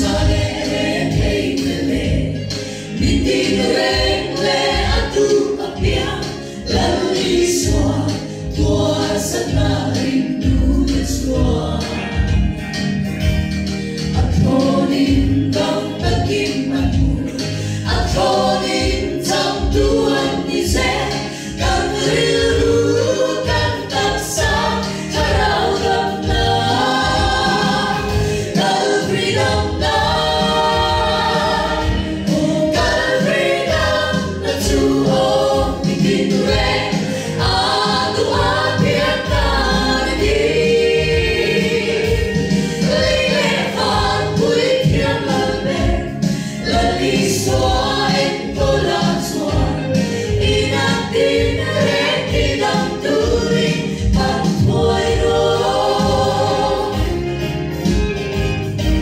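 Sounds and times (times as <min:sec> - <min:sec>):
gospel choir singing a hymn: 0:00.0 - 0:59.0.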